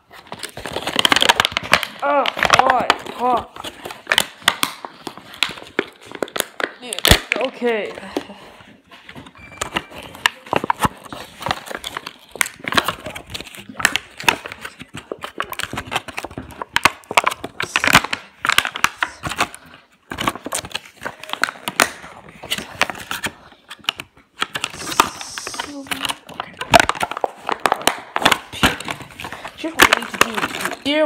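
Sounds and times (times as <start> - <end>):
plastic blister pack crackling: 0.0 - 31.0.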